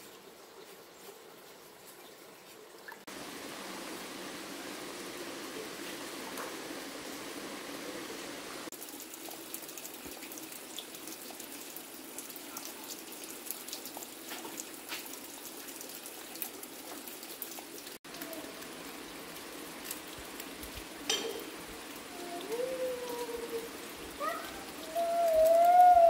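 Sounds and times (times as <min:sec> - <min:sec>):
stream water running over rocks: 0:00.0 - 0:26.0.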